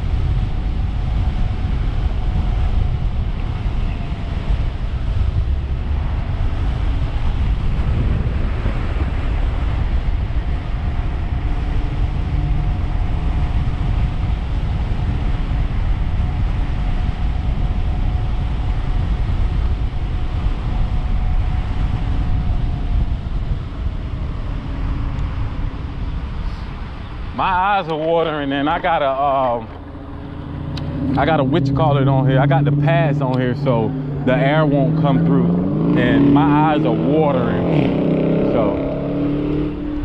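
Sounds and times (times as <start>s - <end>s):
faint steady whine: 0.0s - 35.5s
wind buffeting microphone: 0.0s - 40.0s.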